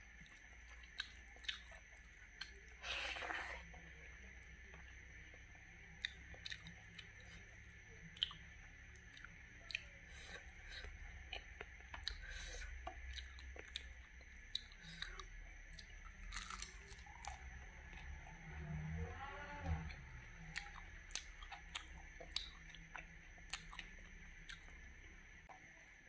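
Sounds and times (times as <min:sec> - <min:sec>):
person chewing food: 0:00.0 - 0:18.4, 0:19.9 - 0:25.6.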